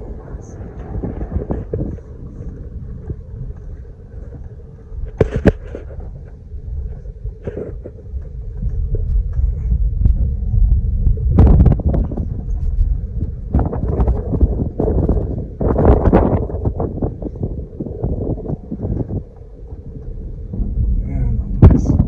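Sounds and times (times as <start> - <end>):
engine and tyre rumble: 0.0 - 22.0.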